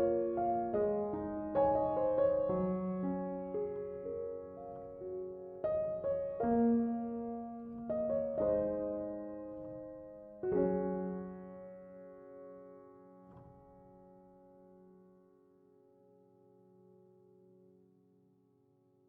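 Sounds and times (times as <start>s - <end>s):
soft piano chords: 0.0s - 18.3s.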